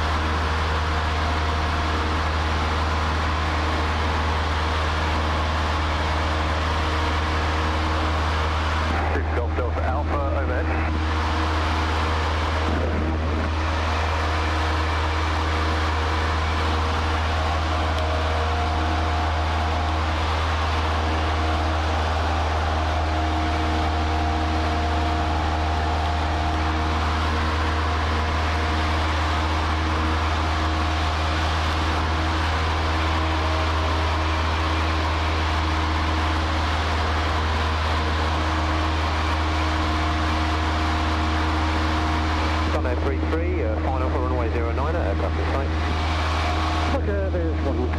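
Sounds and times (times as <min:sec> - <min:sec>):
small plane engine droning: 0:00.0 - 0:47.9.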